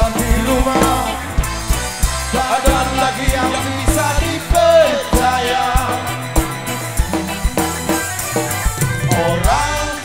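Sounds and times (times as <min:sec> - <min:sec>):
bass: 0:00.0 - 0:10.0
drum kit beat: 0:00.0 - 0:10.0
wavering lead melody: 0:00.0 - 0:10.0.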